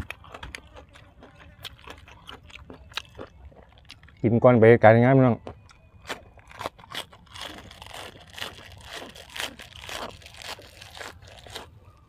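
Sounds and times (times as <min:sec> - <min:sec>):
person chewing crunchy food: 0:00.0 - 0:04.3, 0:05.4 - 0:12.0.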